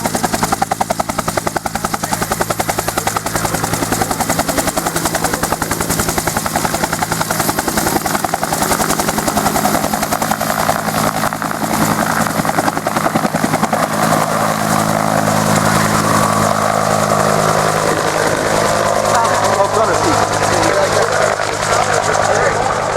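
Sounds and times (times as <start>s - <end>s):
helicopter rotor beating: 0.0s - 22.9s
turbine engine tone: 0.0s - 22.9s.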